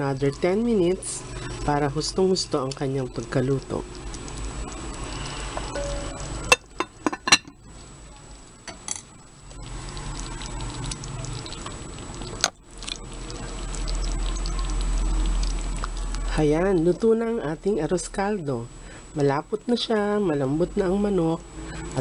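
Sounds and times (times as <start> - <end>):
porridge simmering and plopping: 0.0 - 22.0.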